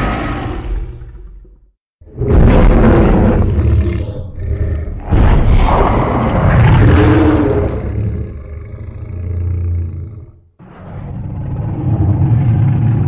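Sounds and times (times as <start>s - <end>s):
monster roar: 0.0s - 1.5s, 2.1s - 13.0s.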